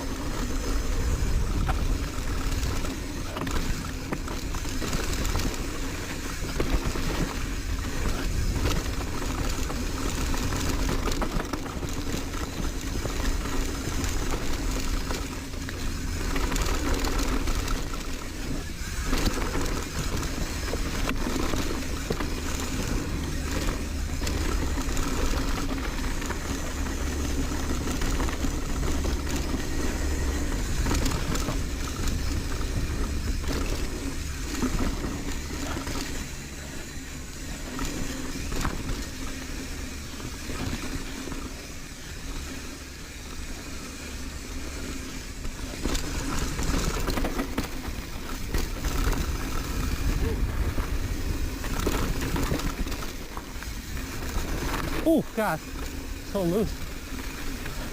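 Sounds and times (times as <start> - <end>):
mountain bike rattling: 0.0 - 57.9
tyres on dirt trail: 0.0 - 57.9.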